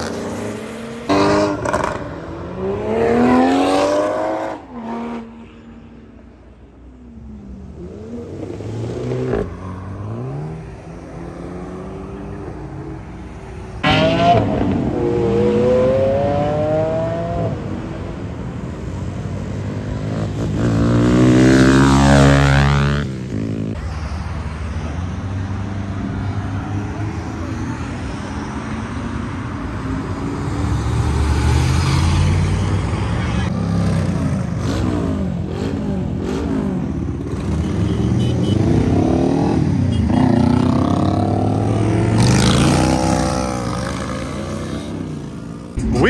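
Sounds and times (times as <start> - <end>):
engines revving: 0.0 - 5.4, 7.2 - 46.0
motorcycles and cars passing: 0.0 - 46.0.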